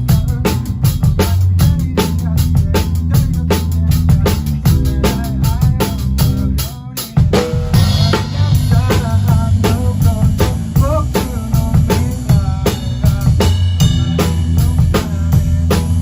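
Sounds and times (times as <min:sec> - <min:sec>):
drum kit kick and snare: 0:00.0 - 0:16.0
live rock band playing: 0:00.0 - 0:16.0.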